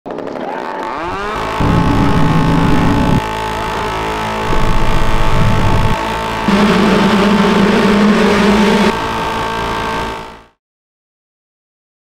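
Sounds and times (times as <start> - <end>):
motocross bike engines revving: 0.4 - 10.4.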